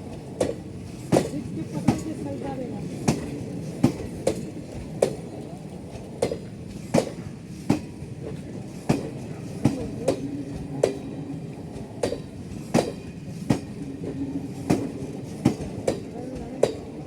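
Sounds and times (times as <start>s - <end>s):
train rumble: 0.0s - 17.0s
train wheels clacking on rail joints: 0.1s - 17.0s.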